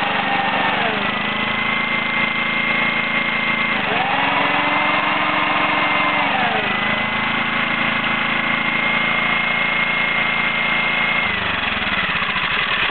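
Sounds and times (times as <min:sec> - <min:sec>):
petrol generator engine running: 0:00.0 - 0:12.9.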